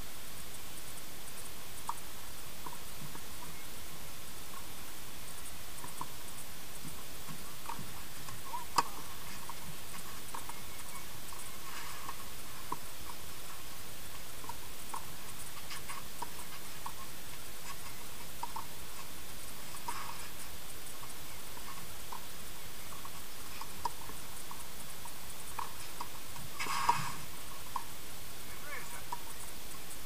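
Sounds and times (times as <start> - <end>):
faint irregular ticks: 0.0 - 30.0
steady hiss: 0.0 - 30.0.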